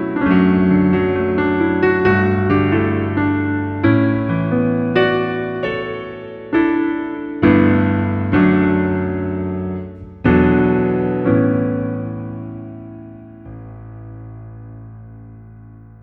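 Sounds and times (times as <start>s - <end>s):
gentle piano chords: 0.0s - 16.0s.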